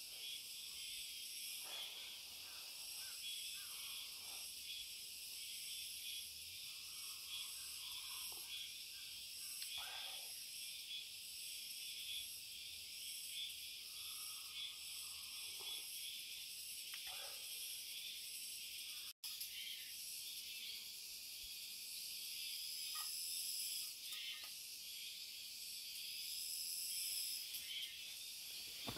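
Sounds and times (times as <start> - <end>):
high-pitched insect chorus: 0.0 - 28.9.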